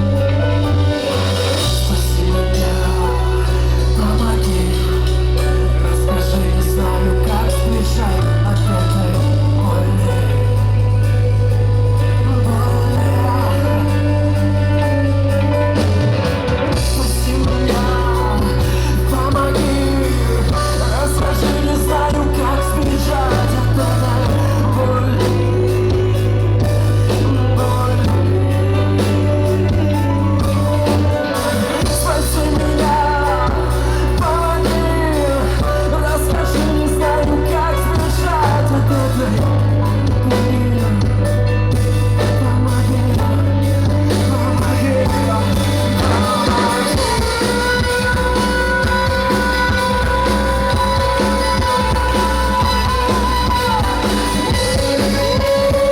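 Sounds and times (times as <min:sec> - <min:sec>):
heavy bass: 0:00.0 - 0:55.9
live rock band playing: 0:00.0 - 0:55.9
person singing: 0:00.0 - 0:55.9.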